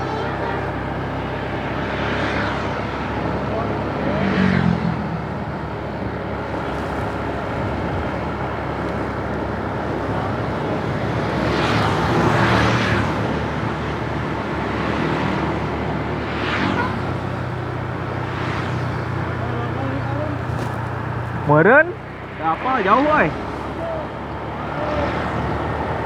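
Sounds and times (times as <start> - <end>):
traffic hum and tyre noise: 0.0 - 26.0
vehicles passing by: 0.0 - 26.0.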